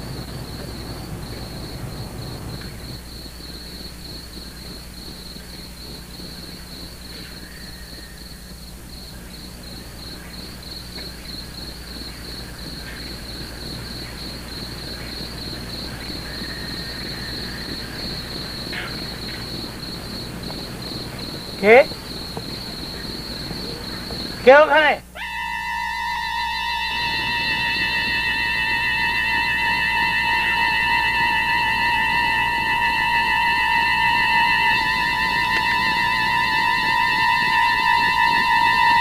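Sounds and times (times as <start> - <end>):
crickets chirring: 0.0 - 39.0
steady low hum: 0.0 - 39.0.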